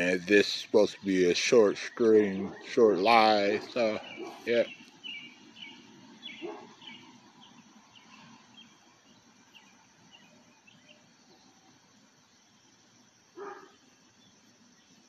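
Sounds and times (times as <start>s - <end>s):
outdoor background hiss: 0.0s - 15.0s
small bird chirping: 0.9s - 15.0s.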